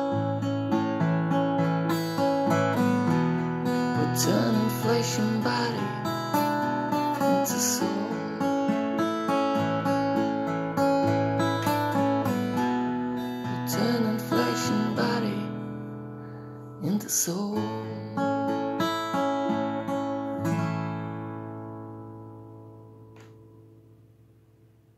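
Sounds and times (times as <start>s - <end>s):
acoustic guitar strumming: 0.0s - 24.8s.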